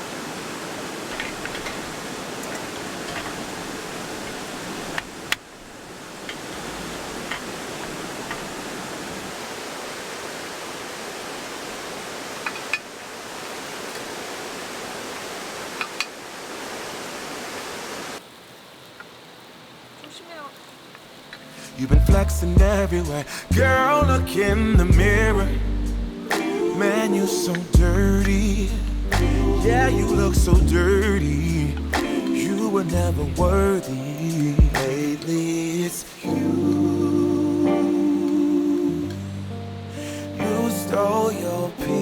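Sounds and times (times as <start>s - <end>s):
stream water rushing: 0.0s - 19.9s, 20.8s - 42.0s.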